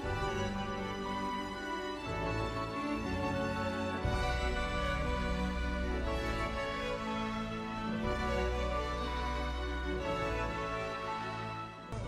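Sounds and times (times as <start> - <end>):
slow sad instrumental music: 0.0 - 12.0.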